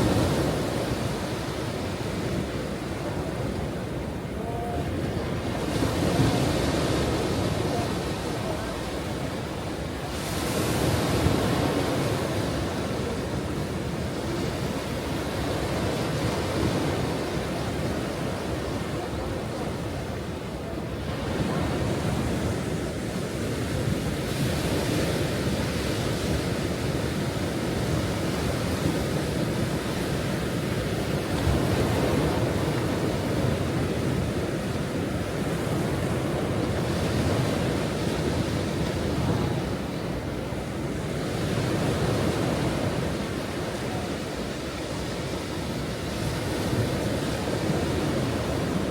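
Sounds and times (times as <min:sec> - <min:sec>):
ocean waves on shore: 0:00.0 - 0:48.9
wind noise on microphone: 0:00.0 - 0:48.9.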